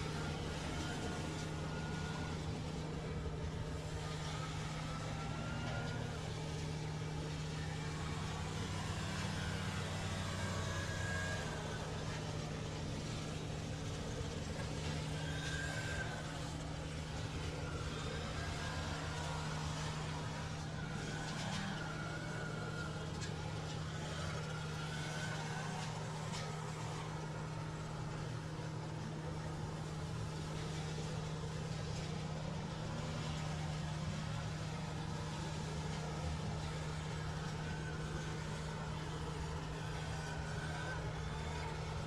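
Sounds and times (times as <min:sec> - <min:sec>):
engine humming steadily: 0:00.0 - 0:42.0.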